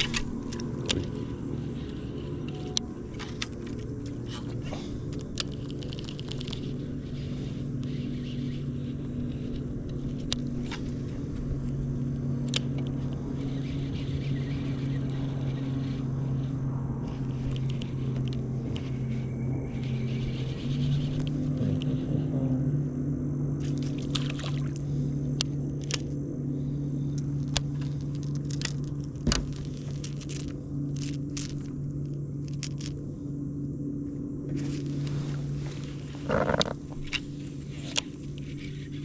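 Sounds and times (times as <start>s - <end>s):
steady motor hum: 0.0s - 39.0s.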